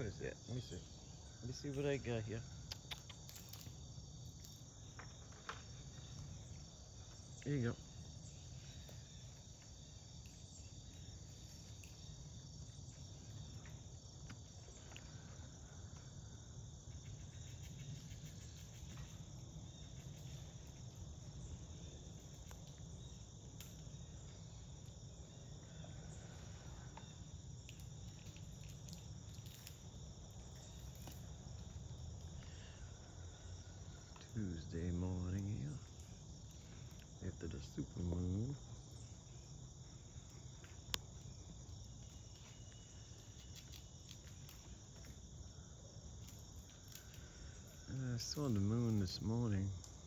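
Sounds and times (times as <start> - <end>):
insects trilling: 0.0 - 50.0.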